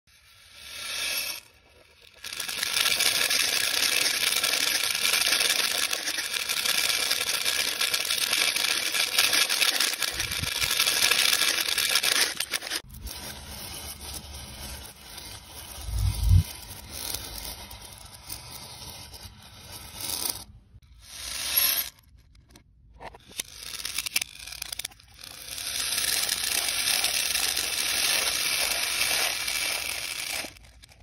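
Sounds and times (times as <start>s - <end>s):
plastic beads pouring and rattling: 0.1s - 20.4s, 23.2s - 31.0s
stick scraping beads across table: 0.1s - 31.0s.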